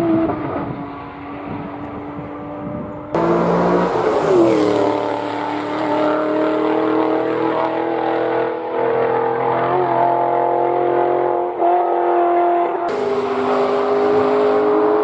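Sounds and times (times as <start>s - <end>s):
sports car engine passing: 0.0s - 15.0s.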